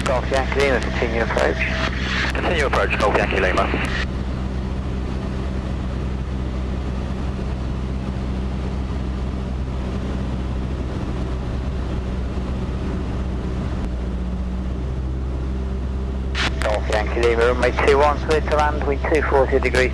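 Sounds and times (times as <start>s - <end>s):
airplane engine and propeller droning: 0.0s - 19.9s.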